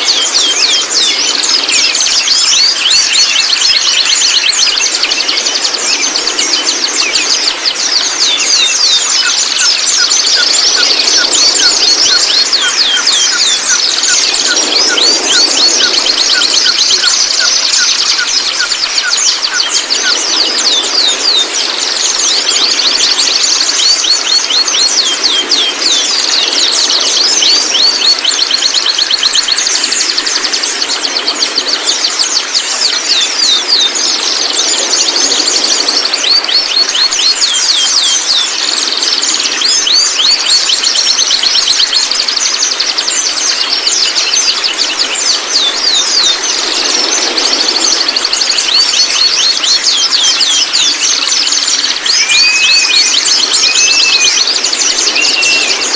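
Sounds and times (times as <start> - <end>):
bird twittering rapidly: 0.0 - 55.9.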